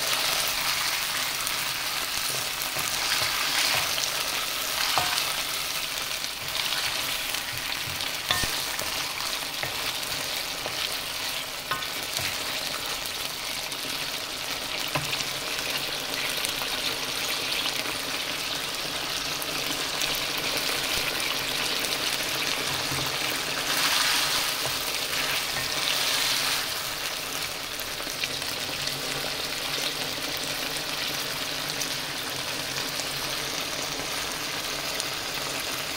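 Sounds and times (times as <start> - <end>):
fish frying in sauce sizzling: 0.0 - 35.9.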